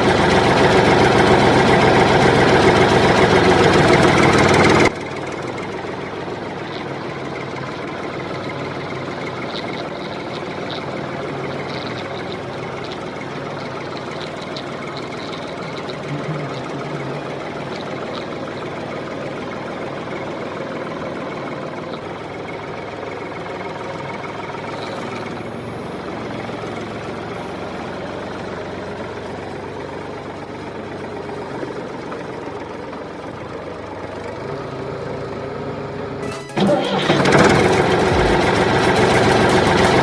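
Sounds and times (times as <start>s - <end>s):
small motor running: 0.0s - 40.0s.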